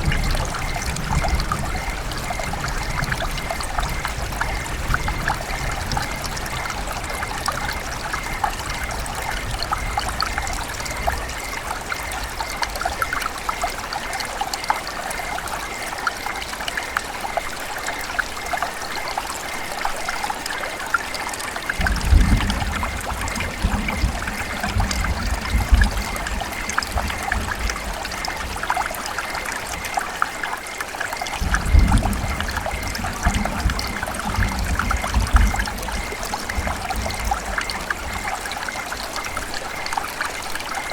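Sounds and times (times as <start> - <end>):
river water running: 0.0 - 40.9
small water splashes: 0.0 - 40.9.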